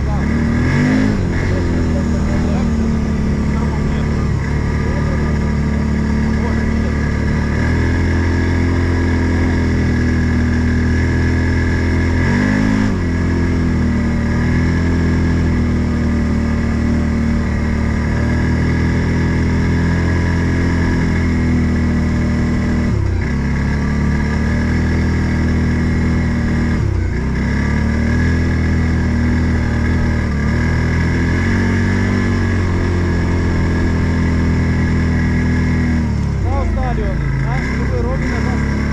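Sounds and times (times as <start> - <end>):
off-road vehicle engine running: 0.0 - 38.9.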